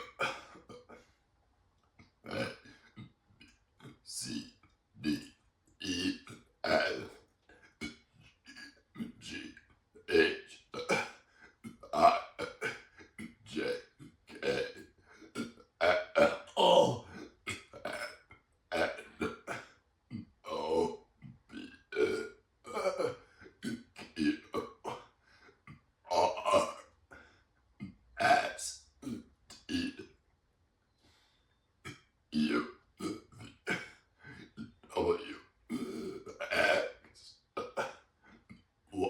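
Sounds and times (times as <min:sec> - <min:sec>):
person burping letters: 0:00.0 - 0:01.0, 0:02.2 - 0:03.1, 0:03.8 - 0:07.2, 0:07.8 - 0:25.1, 0:25.7 - 0:27.0, 0:27.8 - 0:30.2, 0:31.9 - 0:39.0.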